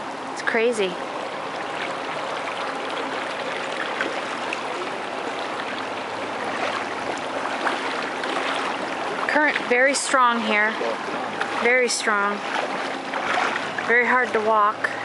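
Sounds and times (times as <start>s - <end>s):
floodwater rushing: 0.0s - 15.0s
faint small splashes: 1.2s - 15.0s.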